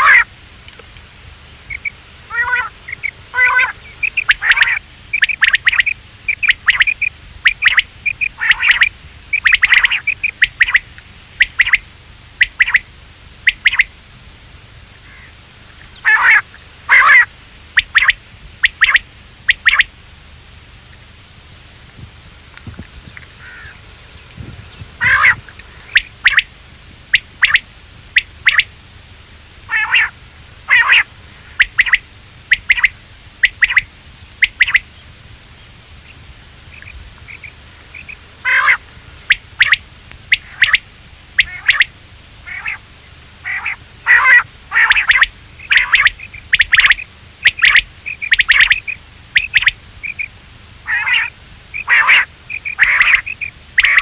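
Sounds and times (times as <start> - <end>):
quail calling: 0.0 - 14.0, 14.9 - 20.0, 22.6 - 28.8, 29.5 - 54.0.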